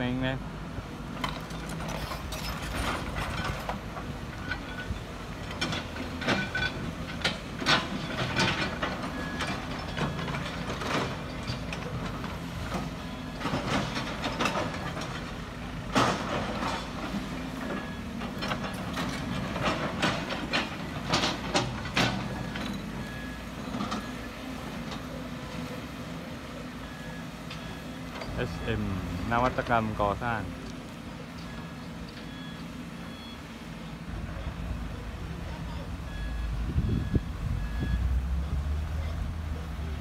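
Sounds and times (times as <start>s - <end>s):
excavators running: 0.0s - 40.0s.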